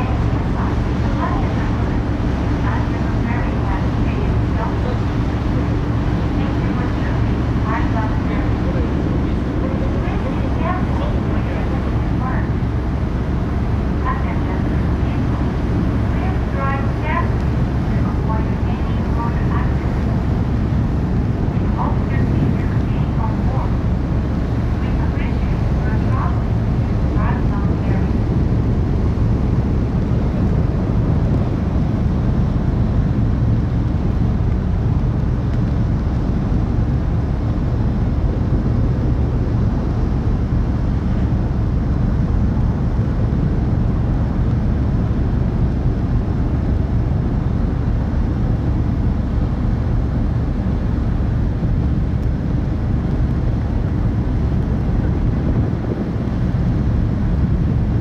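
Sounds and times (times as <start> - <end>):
ferry engines rumbling: 0.0 - 58.0.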